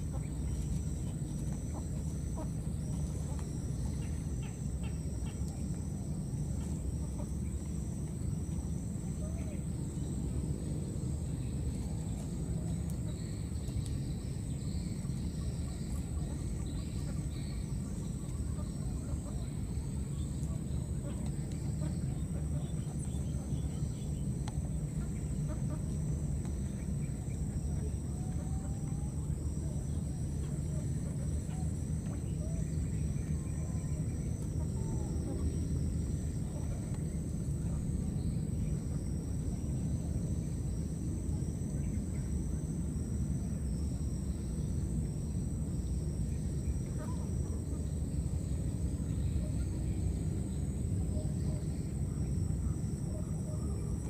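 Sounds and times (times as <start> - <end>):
high continuous whine: 0.0 - 54.0.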